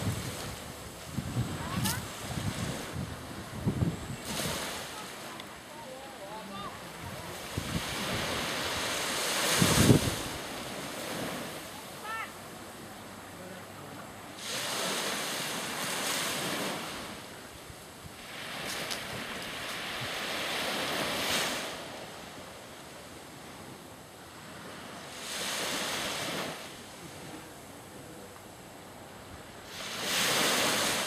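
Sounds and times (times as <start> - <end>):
wind hiss: 0.0 - 13.2, 14.3 - 31.0
sea waves washing in: 0.0 - 31.0.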